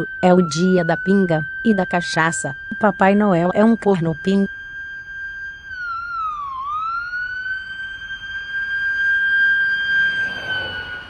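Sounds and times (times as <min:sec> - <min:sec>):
ambulance siren: 0:00.0 - 0:11.0.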